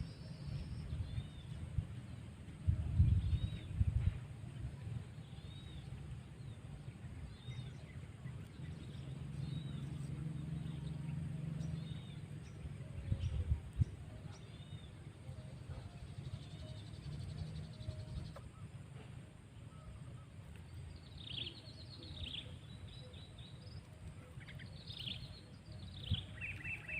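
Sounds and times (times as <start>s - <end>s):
birds chirping: 0.0s - 26.9s
steady low hum: 0.0s - 26.9s.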